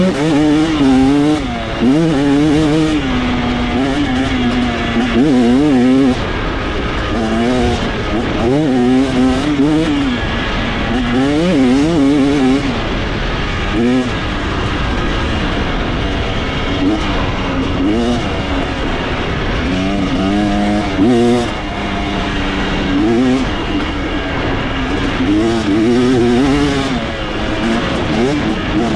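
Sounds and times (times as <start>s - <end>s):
motocross engine revving: 0.0s - 28.9s.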